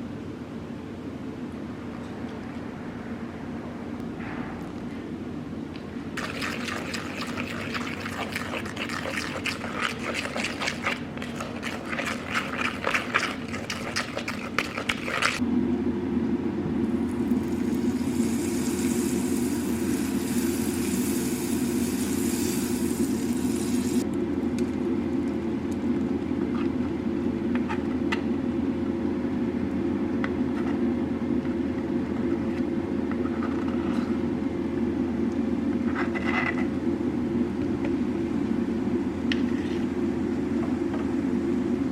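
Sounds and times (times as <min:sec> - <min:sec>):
appliance fan whirring: 0:00.0 - 0:41.9.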